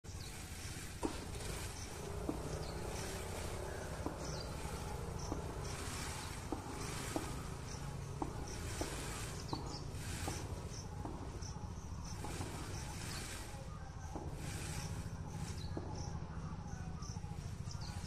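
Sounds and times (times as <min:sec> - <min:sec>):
low background noise: 0:00.0 - 0:18.0
insects chirping and buzzing: 0:00.1 - 0:18.0.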